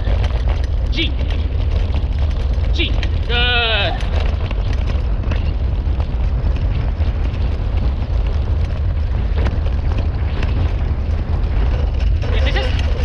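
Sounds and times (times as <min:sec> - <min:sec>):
dog rig rolling rumble: 0:00.0 - 0:13.0
wind buffeting microphone: 0:00.0 - 0:13.0.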